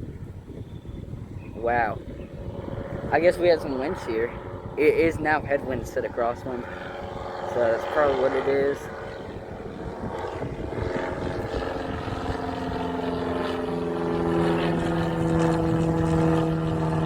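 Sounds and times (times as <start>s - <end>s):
propeller aircraft engine running: 0.0s - 17.0s.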